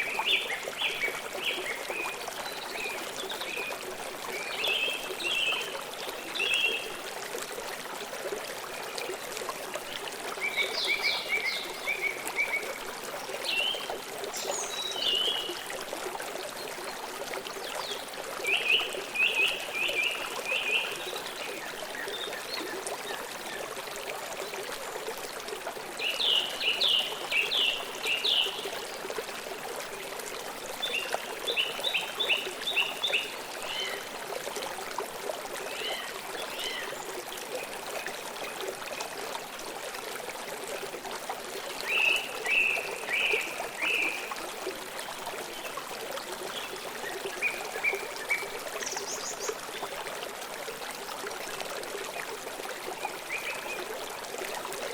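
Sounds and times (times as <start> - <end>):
flowing river water: 0.0 - 54.9.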